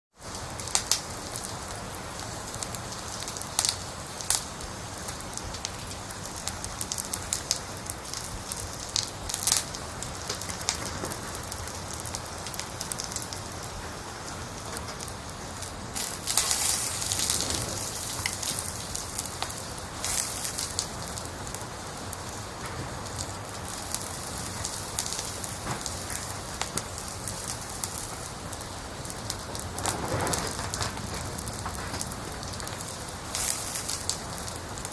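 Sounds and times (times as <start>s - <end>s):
wood fire crackling: 0.1s - 34.9s
sharp pops of fire: 0.3s - 34.9s.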